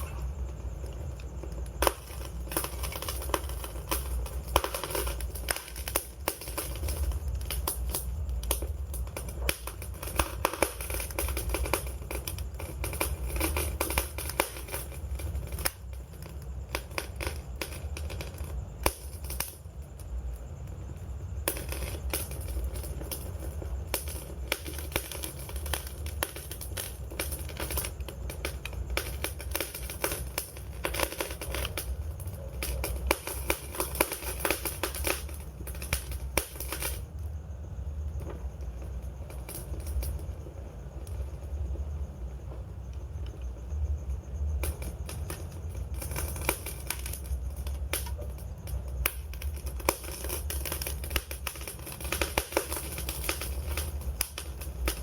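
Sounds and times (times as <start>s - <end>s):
low rumble of flames: 0.0s - 55.0s
wood fire snapping and popping: 0.0s - 55.0s.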